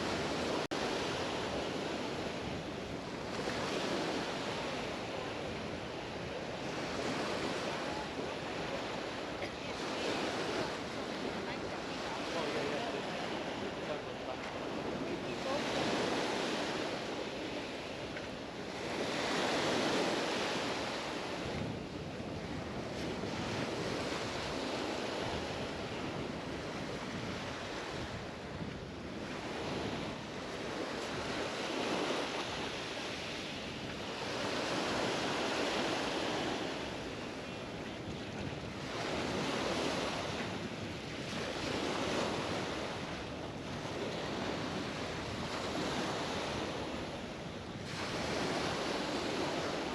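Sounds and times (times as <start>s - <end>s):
waves breaking on beach: 0.0s - 49.9s
wind on microphone: 0.0s - 49.9s.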